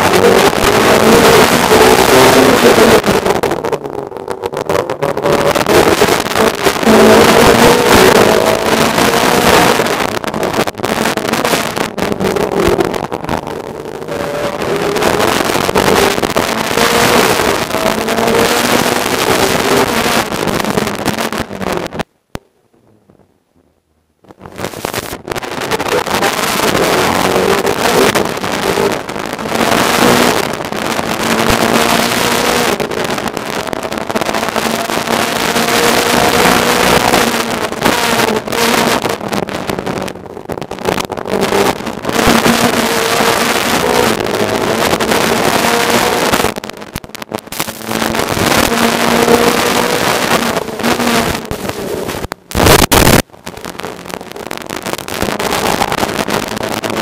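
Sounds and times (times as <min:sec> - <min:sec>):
racing car engine under throttle: 0:00.0 - 0:57.0.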